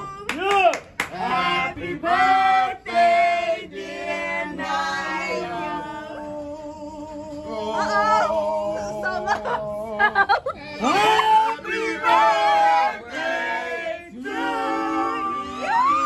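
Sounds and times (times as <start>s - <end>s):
group singing a birthday song: 1.0s - 16.0s.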